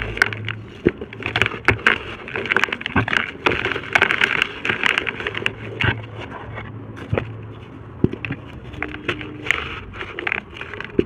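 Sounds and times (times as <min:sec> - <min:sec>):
dry dirt crumbling by hand: 0:00.0 - 0:11.0.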